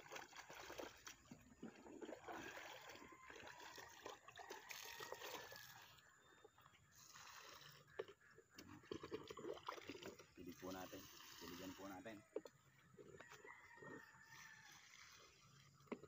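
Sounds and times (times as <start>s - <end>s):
water dribbling: 0.0s - 16.0s
water sloshing in bucket: 0.0s - 16.0s.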